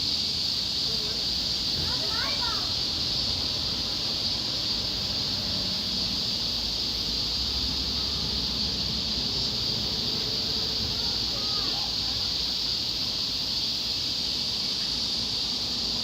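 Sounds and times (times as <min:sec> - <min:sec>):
cicadas droning: 0:00.0 - 0:16.0.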